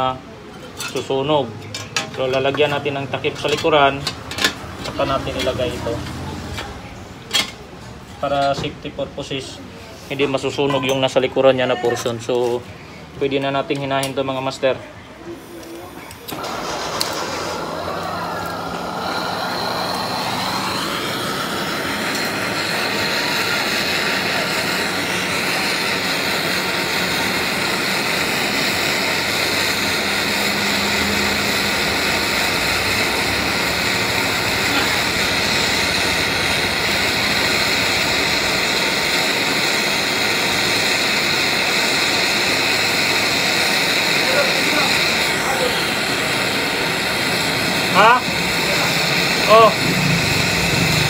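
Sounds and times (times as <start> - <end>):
gas torch hissing: 2.1 - 6.9, 13.4 - 51.0.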